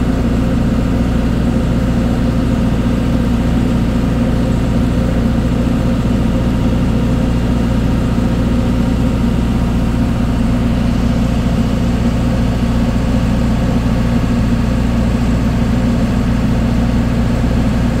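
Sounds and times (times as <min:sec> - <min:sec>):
ship engine humming: 0:01.9 - 0:17.9.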